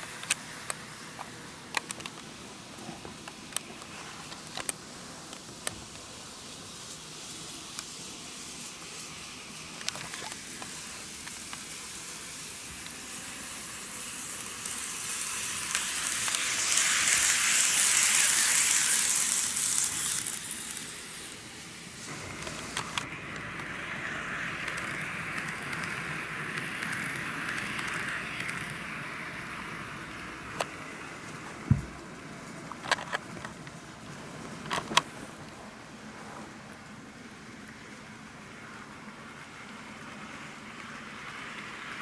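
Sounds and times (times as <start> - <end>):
model train rolling rattle: 0.0 - 35.1, 37.2 - 42.0.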